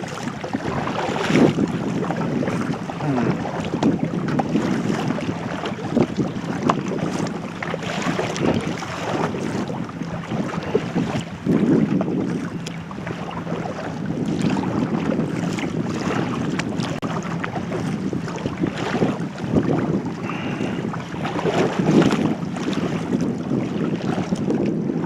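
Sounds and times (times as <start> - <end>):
kayak paddle splashing water: 0.0 - 25.0
wind buffeting microphone: 0.0 - 25.0.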